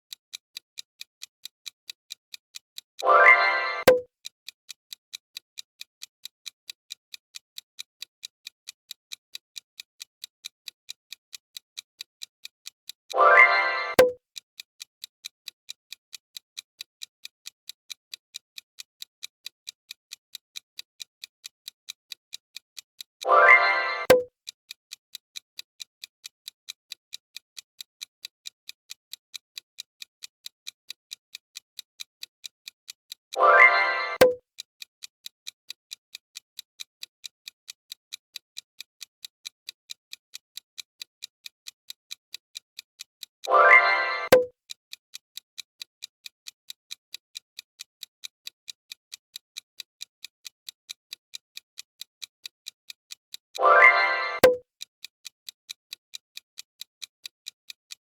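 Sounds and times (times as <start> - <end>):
timer ticking: 2.8 - 4.1, 4.7 - 14.2, 14.8 - 24.8, 25.4 - 34.4, 35.2 - 58.0.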